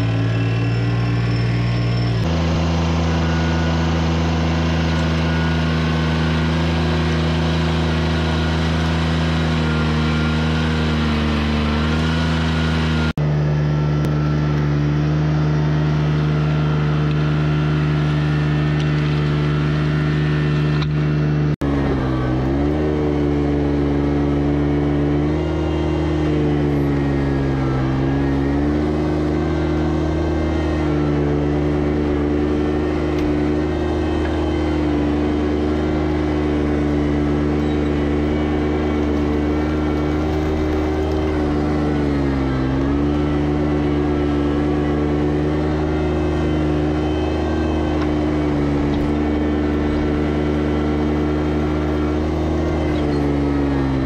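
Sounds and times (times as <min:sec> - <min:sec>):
engine working hard: 0:00.0 - 0:54.0.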